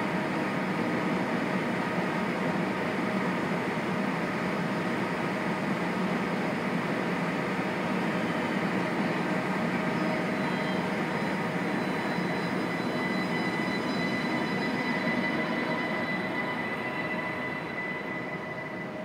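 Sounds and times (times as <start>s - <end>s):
high train whine: 0.0s - 19.0s
train humming: 0.4s - 19.0s.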